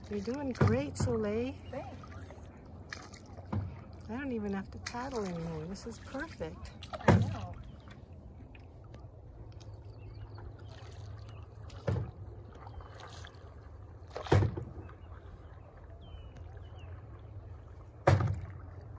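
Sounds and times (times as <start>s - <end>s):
canoe paddle splashes: 0.0s - 18.9s
rush of water and wind: 0.0s - 18.9s.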